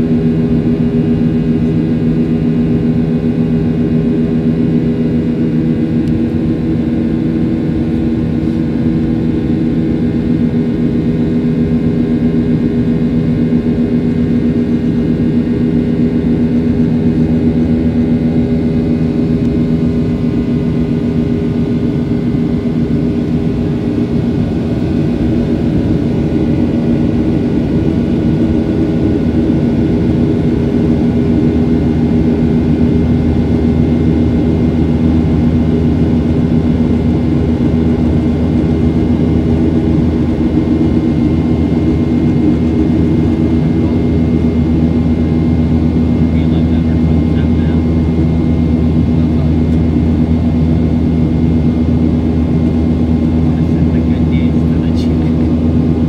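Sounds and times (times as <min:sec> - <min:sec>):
jet engine hum: 0:00.0 - 0:56.0.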